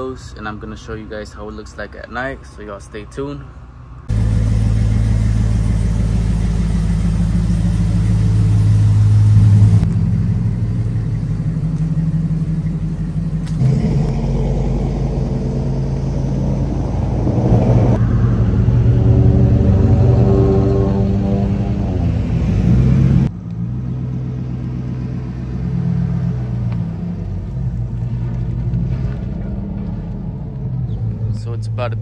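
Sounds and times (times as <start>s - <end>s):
engine exhaust rumble with revving: 4.0s - 32.0s.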